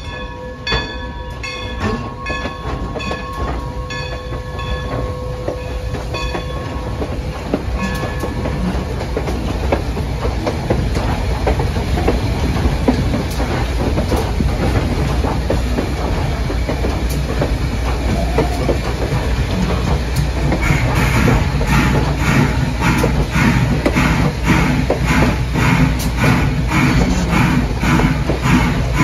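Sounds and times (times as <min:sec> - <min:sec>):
train rumbling on track: 0:00.0 - 0:29.0
wheels clickety-clack on rails: 0:00.0 - 0:29.0.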